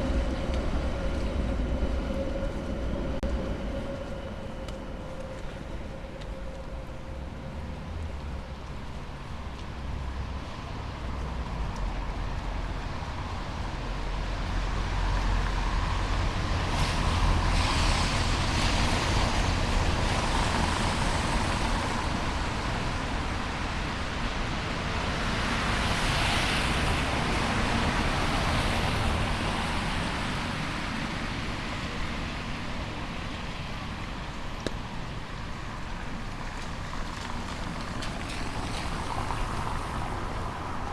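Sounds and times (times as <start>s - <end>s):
cars passing on wet road: 0.0s - 40.9s.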